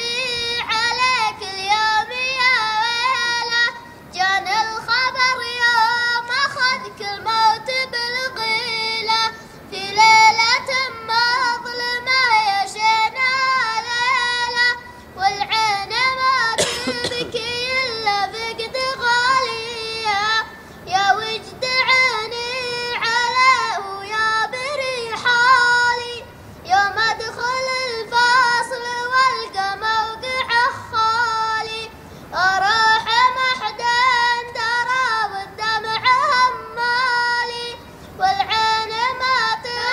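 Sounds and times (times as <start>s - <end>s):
child chanting melodically: 0.0s - 39.9s.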